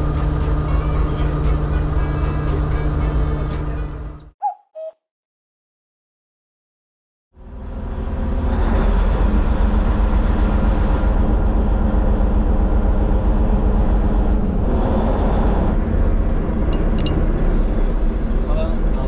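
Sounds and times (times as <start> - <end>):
boat engine running: 0.0 - 4.2, 7.5 - 19.0.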